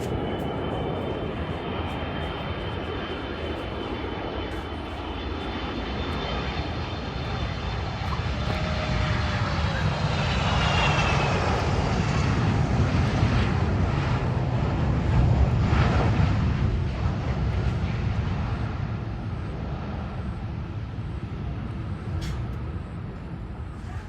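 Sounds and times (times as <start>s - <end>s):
jet airliner engine rumble: 0.0s - 24.0s.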